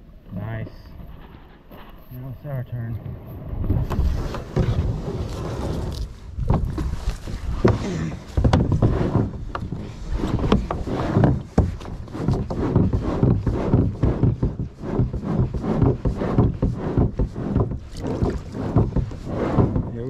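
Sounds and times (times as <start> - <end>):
kayak hull scraping on shore: 0.9 - 20.0
kayak shifting in shallow water: 3.4 - 20.0.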